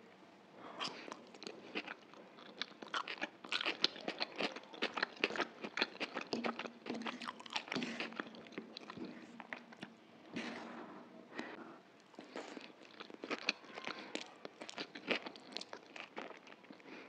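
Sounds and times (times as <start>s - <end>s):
crunchy chewing: 0.8s - 10.7s, 12.1s - 17.0s.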